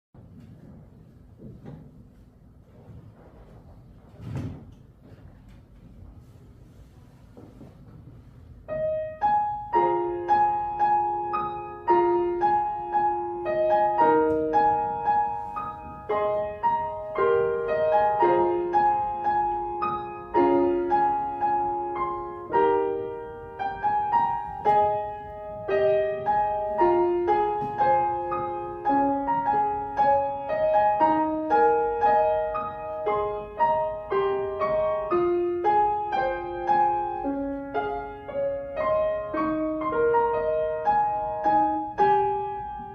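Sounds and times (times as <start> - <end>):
solo piano piece: 0.2 - 42.9.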